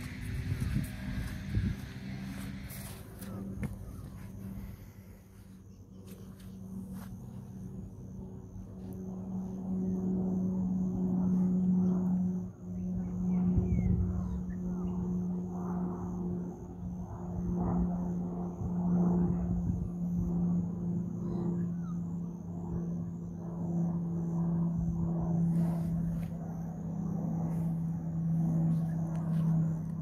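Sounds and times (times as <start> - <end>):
engine drone: 0.0 - 30.0.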